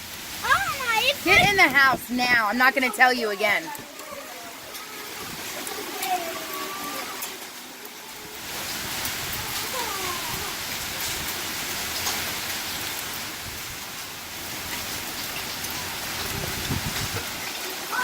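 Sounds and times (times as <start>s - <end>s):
hail and rain pelting: 0.0s - 18.0s.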